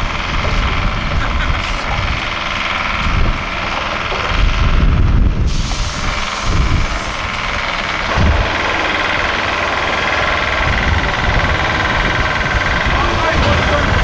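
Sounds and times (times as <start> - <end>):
heavy vehicle engine running: 0.0 - 14.0
steady whine: 0.0 - 14.0.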